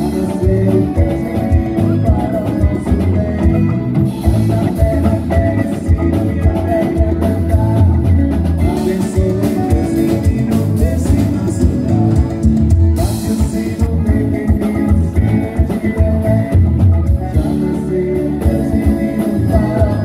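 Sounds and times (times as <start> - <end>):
live rock band playing: 0.0 - 20.0
men singing: 0.0 - 20.0.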